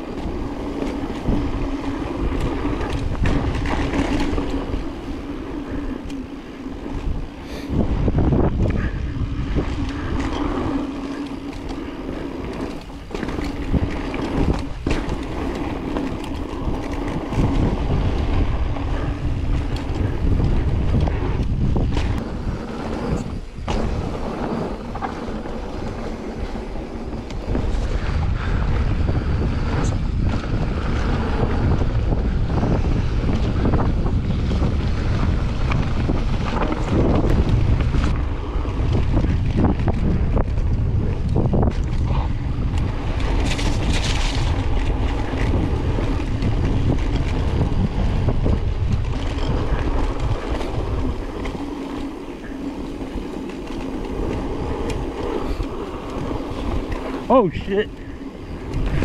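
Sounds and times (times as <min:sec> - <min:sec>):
bike knocks and rattles: 0:00.0 - 0:06.2, 0:07.8 - 0:59.0
bike rolling on dirt trail: 0:00.0 - 0:59.0
wind on microphone: 0:00.0 - 0:59.0.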